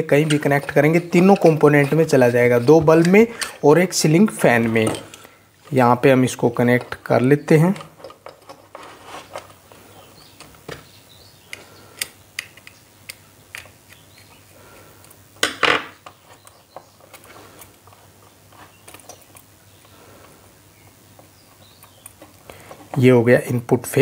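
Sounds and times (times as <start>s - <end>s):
wires and plastic rustling: 0.0s - 10.9s, 11.5s - 24.0s.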